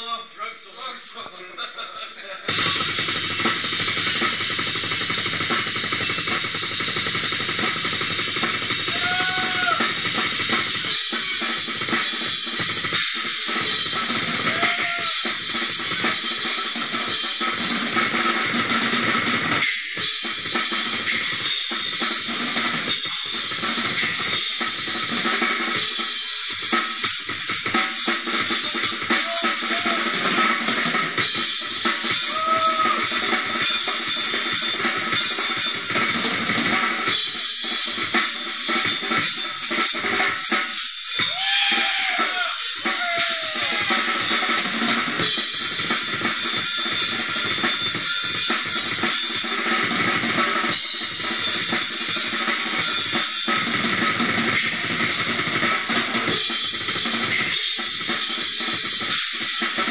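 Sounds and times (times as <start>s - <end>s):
bass drum and snare: 2.5s - 59.9s
cymbals: 2.5s - 59.9s.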